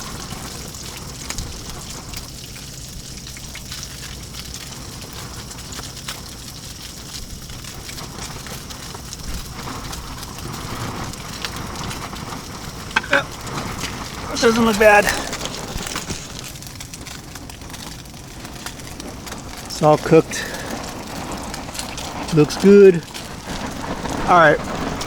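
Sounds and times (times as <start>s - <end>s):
fish sizzling in a pan: 0.0s - 25.0s.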